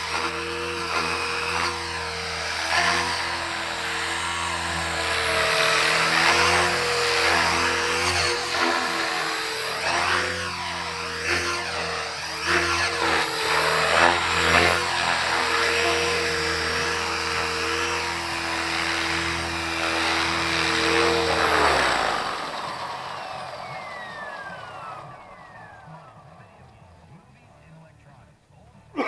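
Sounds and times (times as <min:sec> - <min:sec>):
rc helicopter rotor and motor whine: 0:00.0 - 0:27.9.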